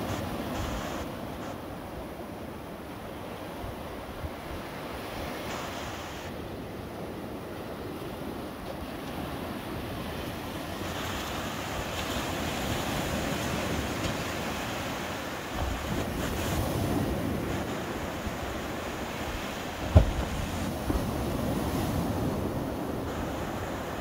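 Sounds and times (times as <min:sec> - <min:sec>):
waves breaking on sand: 0:00.0 - 0:24.0.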